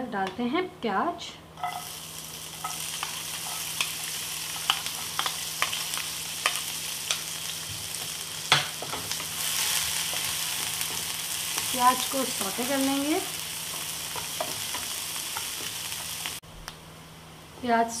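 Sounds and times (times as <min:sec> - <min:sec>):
onions sizzling in oil: 0:01.6 - 0:16.4.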